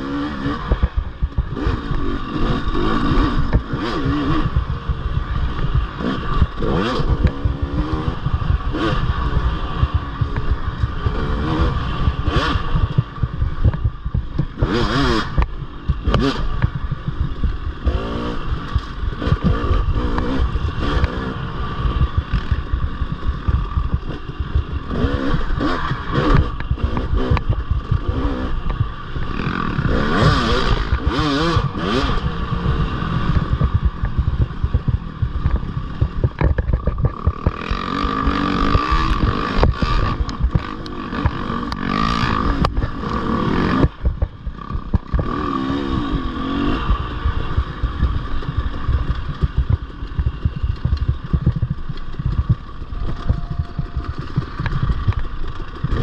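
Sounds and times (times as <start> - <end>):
off-road motorcycle engine revving: 0.0 - 56.0.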